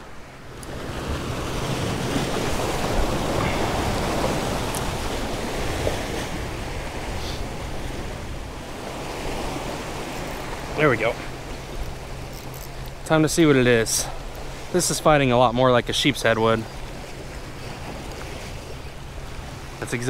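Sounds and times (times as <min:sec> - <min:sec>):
waves breaking on rocks: 0:00.0 - 0:20.0.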